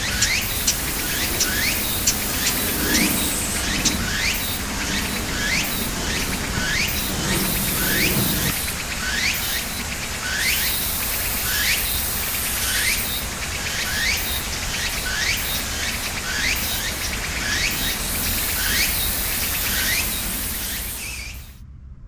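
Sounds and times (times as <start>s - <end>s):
bird rising chirp: 0.0s - 11.9s, 12.6s - 21.6s
insects chorus: 0.0s - 21.6s.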